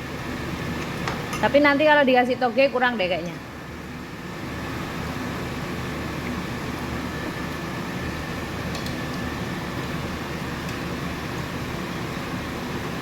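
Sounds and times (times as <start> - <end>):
mechanical hum and rumble: 0.0 - 13.0.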